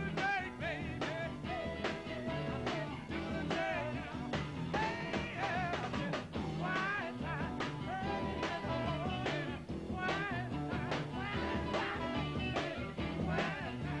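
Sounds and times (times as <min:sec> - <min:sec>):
person singing: 0:00.0 - 0:14.0
rhythm and blues band playing: 0:00.0 - 0:14.0
steady drum beat: 0:00.0 - 0:14.0.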